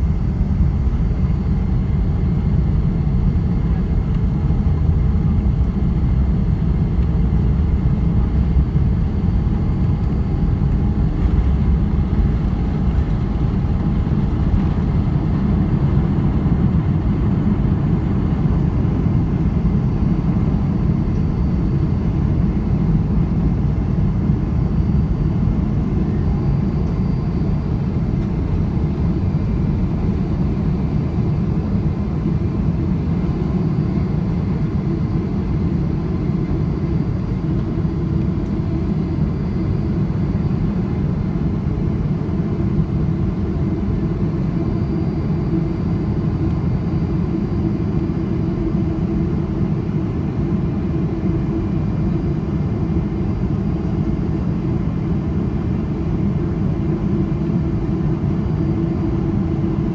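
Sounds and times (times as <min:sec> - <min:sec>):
faint engine whine: 0:00.0 - 0:59.9
jet engine rumble in cabin: 0:00.0 - 0:59.9.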